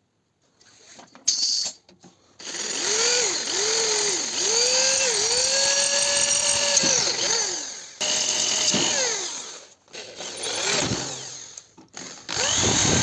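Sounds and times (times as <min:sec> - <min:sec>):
electric power tool motor running: 0:02.4 - 0:13.0.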